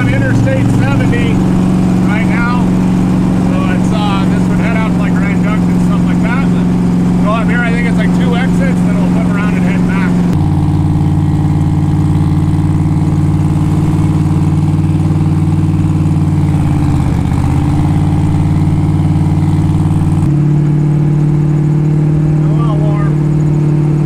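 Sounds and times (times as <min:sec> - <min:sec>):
car engine cruising: 0:00.0 - 0:24.0.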